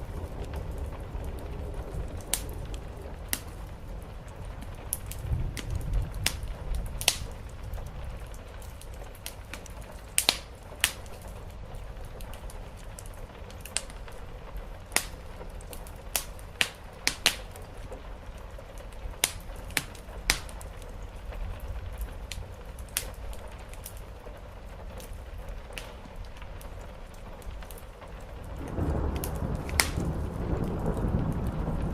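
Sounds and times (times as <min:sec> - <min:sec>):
rain hissing: 0:00.0 - 0:31.9
wood fire crackling: 0:00.0 - 0:31.9.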